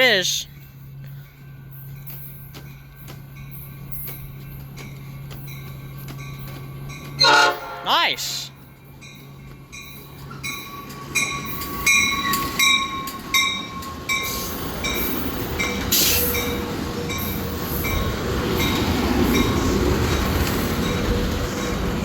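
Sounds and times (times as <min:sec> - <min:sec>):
train rumble: 0:00.6 - 0:07.8, 0:08.6 - 0:22.0
train wheels clicking on rail joints: 0:01.0 - 0:07.4, 0:08.8 - 0:22.0.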